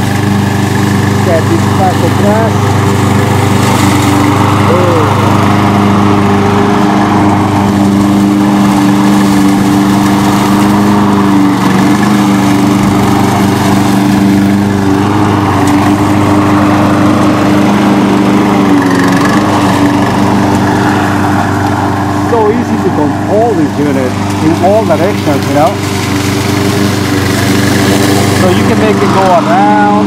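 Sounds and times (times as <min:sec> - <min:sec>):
mower engine running: 0:00.0 - 0:30.0.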